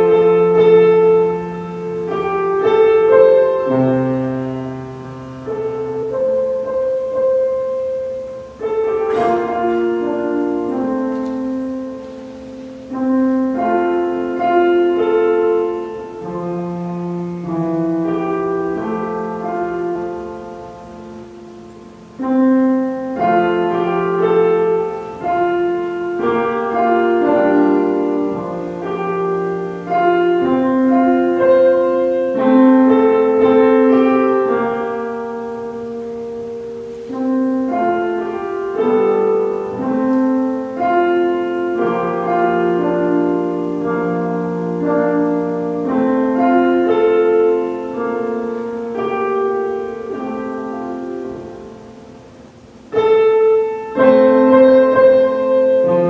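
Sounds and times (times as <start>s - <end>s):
slow solo piano piece: 0.0s - 56.0s.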